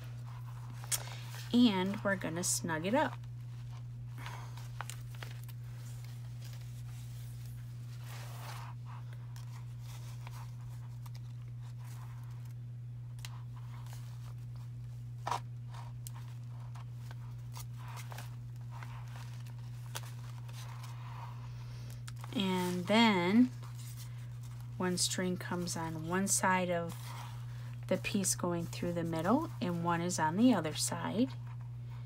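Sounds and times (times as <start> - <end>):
steady low hum: 0.0 - 32.0
pages rustling: 0.1 - 2.2, 2.9 - 31.6.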